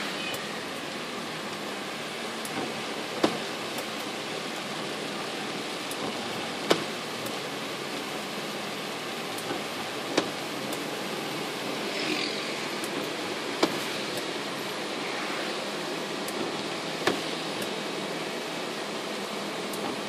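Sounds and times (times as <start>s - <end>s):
rain on a moving car: 0.0s - 20.0s.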